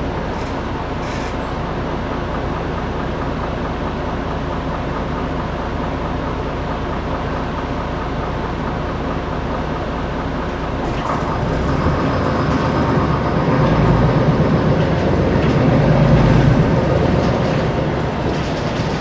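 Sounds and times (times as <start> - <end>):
bus engine rumble from inside: 0.0 - 19.0.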